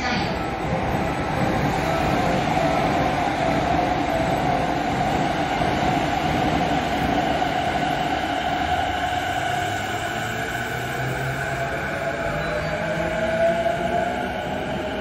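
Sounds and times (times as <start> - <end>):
electric train running on rails: 0.0 - 15.0.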